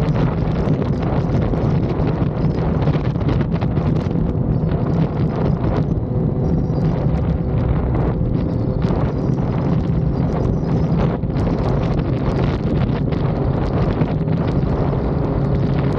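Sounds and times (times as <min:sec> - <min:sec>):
motorcycle engine running: 0:00.0 - 0:15.9
wind buffeting microphone: 0:00.0 - 0:15.9.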